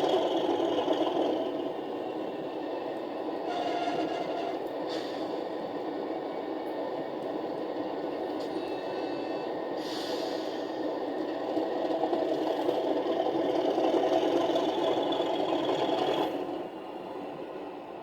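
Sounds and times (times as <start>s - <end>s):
model train diesel engine sound: 0.0s - 18.0s.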